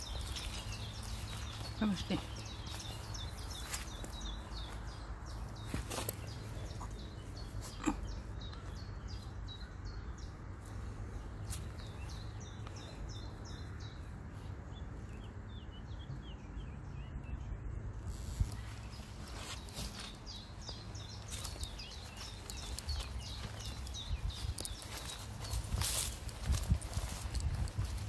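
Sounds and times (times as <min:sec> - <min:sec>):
small birds singing: 0:00.0 - 0:28.0.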